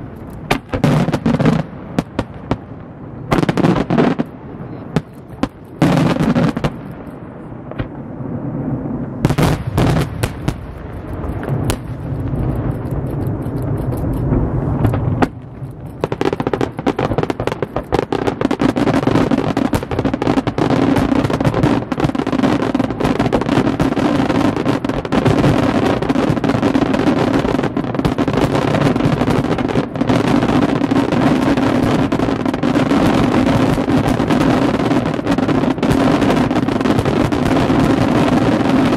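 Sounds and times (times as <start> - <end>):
fireworks bursting: 0.0 - 38.9
fireworks crackling: 0.0 - 38.9.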